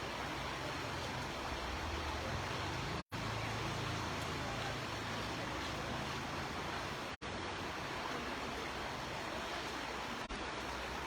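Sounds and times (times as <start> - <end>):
rainwater rushing through gutter: 0.0 - 11.0.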